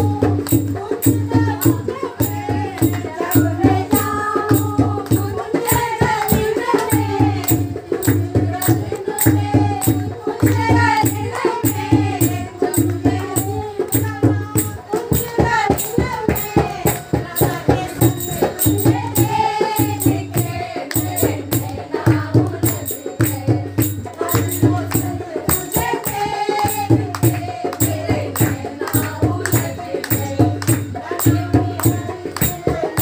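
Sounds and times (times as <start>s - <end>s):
jingling percussion beat: 0.0s - 33.0s
person singing devotional song: 0.0s - 33.0s.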